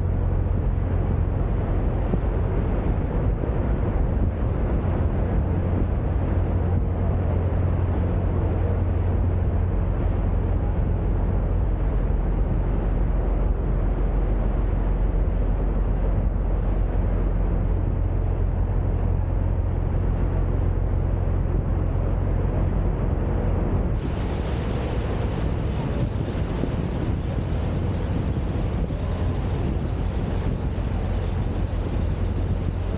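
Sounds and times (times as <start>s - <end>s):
boat engine droning: 0.0s - 32.9s
wind noise on microphone: 0.0s - 32.9s.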